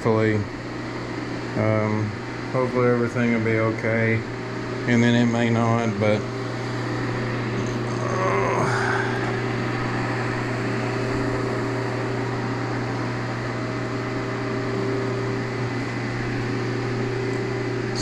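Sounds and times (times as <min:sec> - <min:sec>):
machine fans humming: 0:00.0 - 0:18.0.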